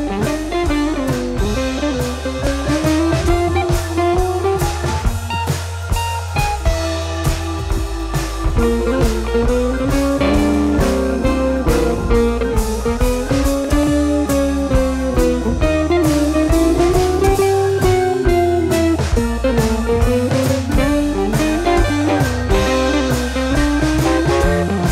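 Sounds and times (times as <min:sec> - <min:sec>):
guitar-led music with drums: 0:00.0 - 0:24.9.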